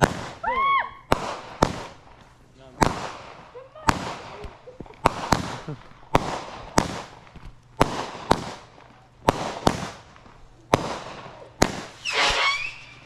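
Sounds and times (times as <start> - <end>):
fireworks bangs with crackle: 0.0 - 13.0.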